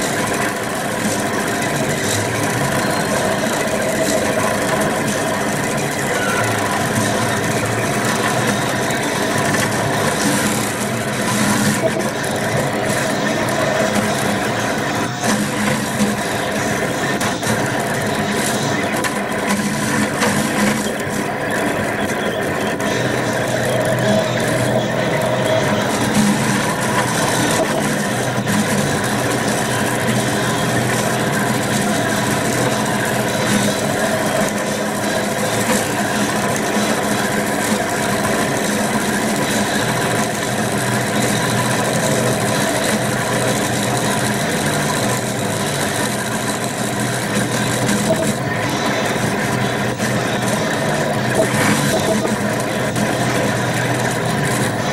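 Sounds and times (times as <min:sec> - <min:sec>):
steady mechanical hum: 0:00.0 - 0:54.9
stepper motors whining: 0:00.0 - 0:54.9.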